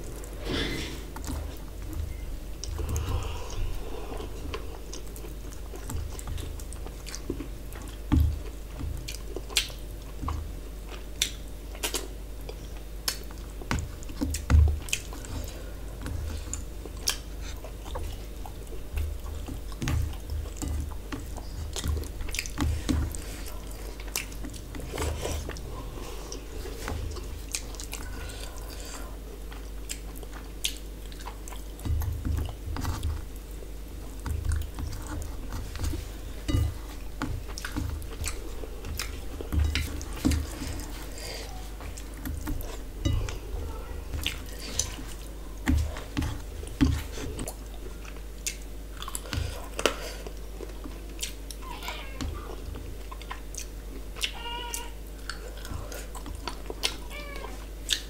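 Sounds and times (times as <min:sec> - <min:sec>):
chewing and wet mouth sounds: 0:00.0 - 0:58.0.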